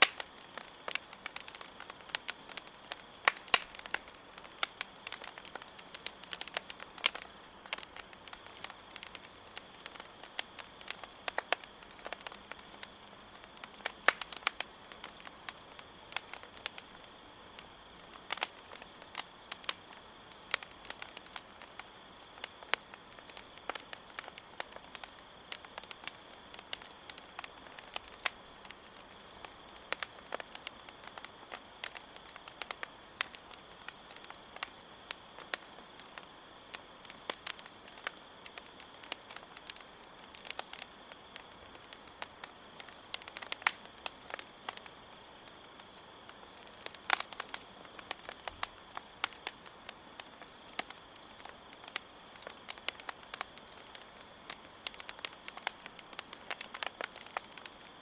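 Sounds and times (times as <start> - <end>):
campfire crackling and popping: 0.0 - 58.0
crickets chirring: 0.0 - 58.0.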